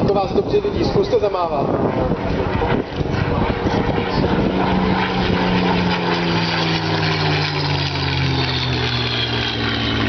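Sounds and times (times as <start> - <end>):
propeller aircraft flying past: 0.0 - 10.0.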